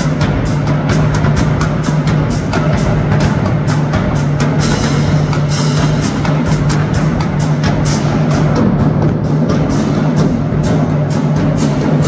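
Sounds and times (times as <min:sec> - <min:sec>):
bass drums: 0:00.0 - 0:12.0
snare drums: 0:00.0 - 0:12.0
tenor drums: 0:00.0 - 0:12.0.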